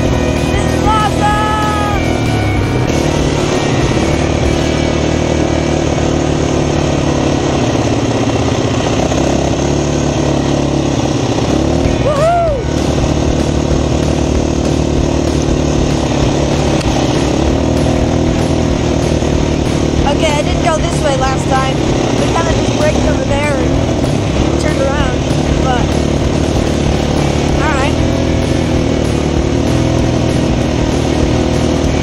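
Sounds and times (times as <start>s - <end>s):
rising and falling tone: 0.0s - 9.5s, 11.4s - 32.0s
quad bike engine running: 0.0s - 32.0s.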